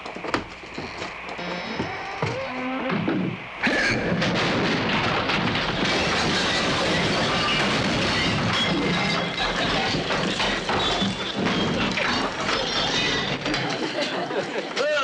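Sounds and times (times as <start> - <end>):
crashing and clattering din: 2.3 - 15.0.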